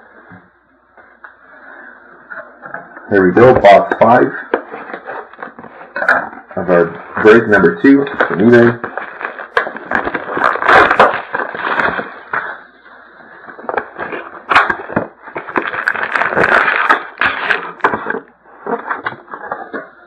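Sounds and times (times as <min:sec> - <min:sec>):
plastic and cardboard crinkling: 0:02.3 - 0:20.0.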